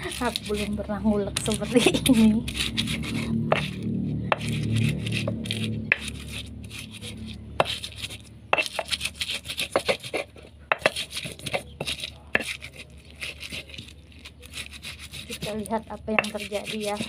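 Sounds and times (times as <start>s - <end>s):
stone pestle grinding in mortar: 0.0s - 17.0s.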